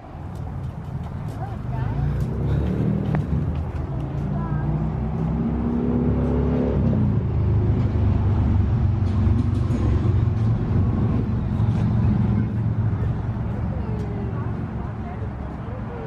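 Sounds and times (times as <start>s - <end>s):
motor vehicle rumbling: 0.0s - 16.0s.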